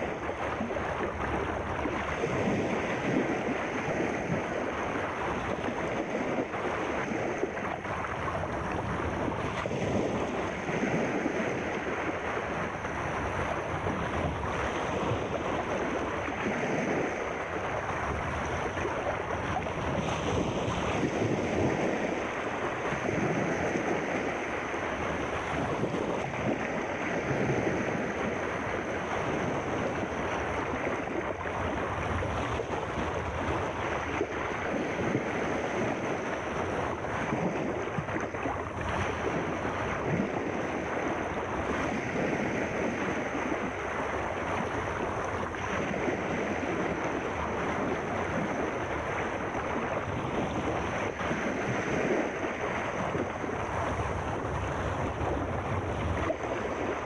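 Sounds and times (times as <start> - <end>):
sea surf washing in: 0.0 - 57.0.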